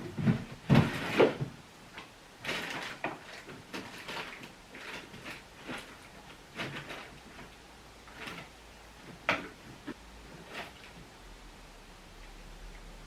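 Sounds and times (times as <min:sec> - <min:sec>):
rustling: 0:00.0 - 0:11.1.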